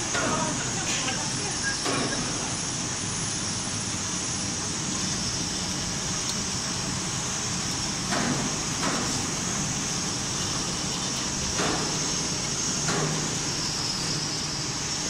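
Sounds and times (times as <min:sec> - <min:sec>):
printing press hum and hiss: 0:00.0 - 0:15.0.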